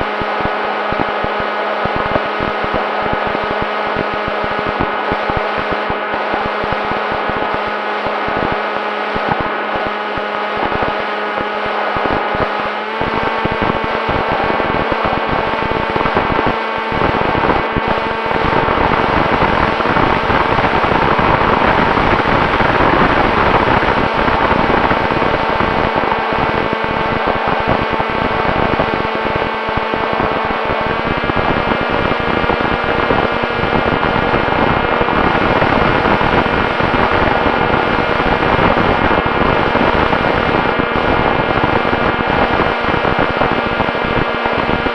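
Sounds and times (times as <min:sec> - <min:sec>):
electric motor and propeller whine: 0:00.0 - 0:44.9
wind rush and buffeting: 0:00.0 - 0:44.9.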